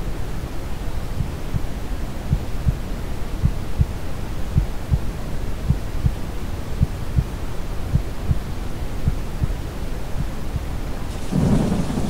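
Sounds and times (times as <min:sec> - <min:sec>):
low rushing brown noise: 0:00.0 - 0:12.0
soft low heartbeat thumps: 0:01.1 - 0:12.0.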